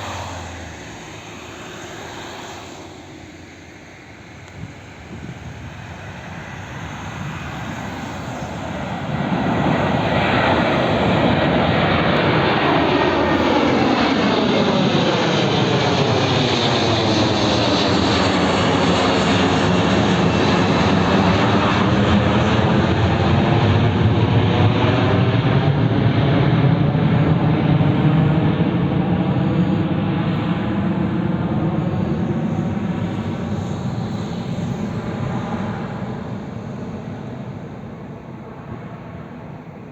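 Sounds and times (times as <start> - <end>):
jet airliner passing: 0.0 - 39.9.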